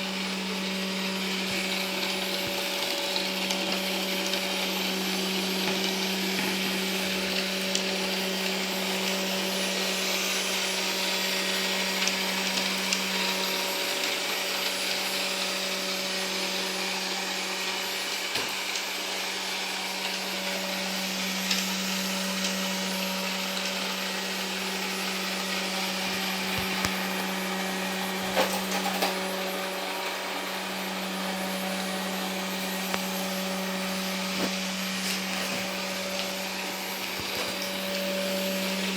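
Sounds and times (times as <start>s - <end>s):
robot vacuum cleaner running: 0.0s - 38.9s.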